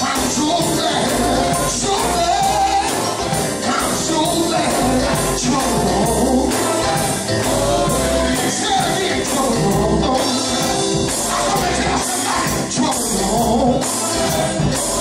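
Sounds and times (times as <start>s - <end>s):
drums and cymbals beat: 0.0s - 15.0s
live band playing: 0.0s - 15.0s
men singing gospel: 0.0s - 15.0s.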